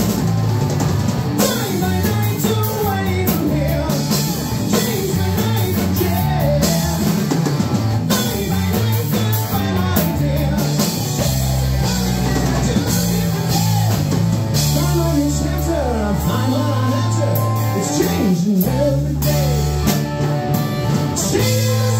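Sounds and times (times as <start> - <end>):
drum kit: 0.0 - 21.9
electric bass: 0.0 - 21.9
electric guitar: 0.0 - 21.9.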